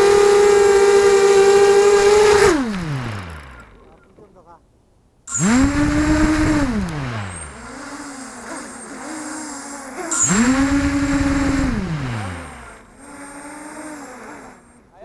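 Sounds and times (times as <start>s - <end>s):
quadcopter motors whining: 0.0s - 4.2s, 5.3s - 15.0s.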